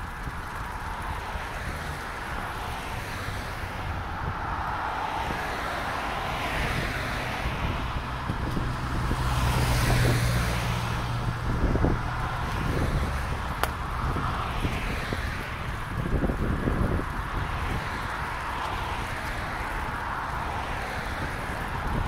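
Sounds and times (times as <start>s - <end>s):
road traffic passing: 0.0s - 22.0s
vehicle engine hum: 0.0s - 22.0s
wind rumbling on microphone: 0.0s - 22.0s.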